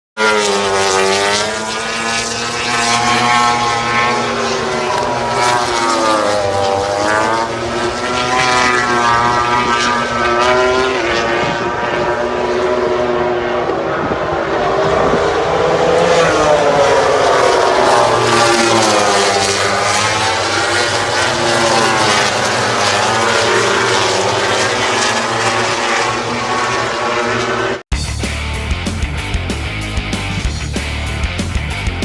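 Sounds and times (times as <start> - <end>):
low engine hum: 0.2 - 32.0
motorcycle engines revving: 0.2 - 32.0.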